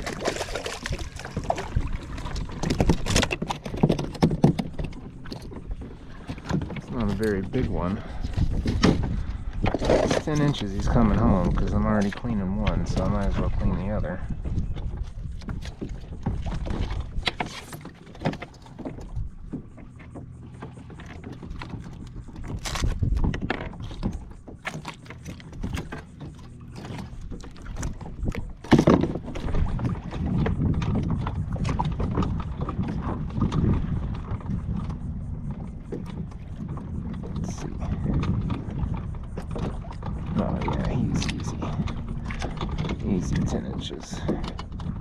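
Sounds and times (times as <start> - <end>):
knocks and clatter of gear: 0.0 - 45.0
low rumble of water and wind: 0.0 - 45.0.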